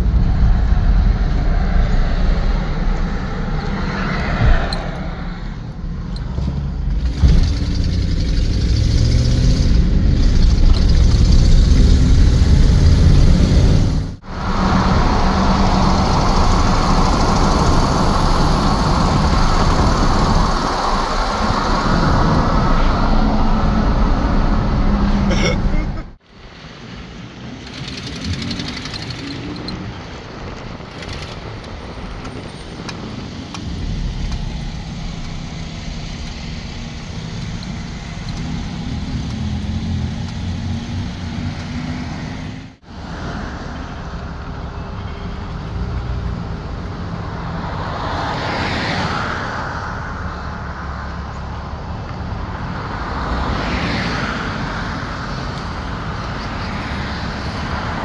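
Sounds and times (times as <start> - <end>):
road noise: 0.0 - 58.0
vehicle engine hum: 0.0 - 58.0.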